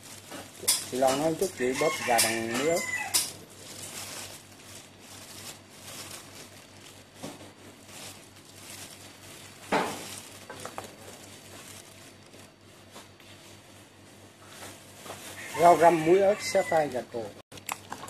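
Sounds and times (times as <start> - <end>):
hands squeezing shredded chicken: 0.0 - 13.7, 14.6 - 16.5
plastic gloves crinkling: 0.0 - 18.0.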